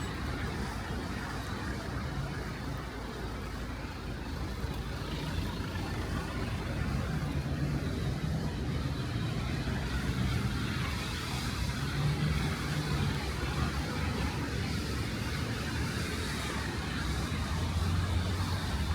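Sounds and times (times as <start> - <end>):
rain hissing on wet road: 0.0 - 18.9
vehicle engine hum: 0.0 - 18.9.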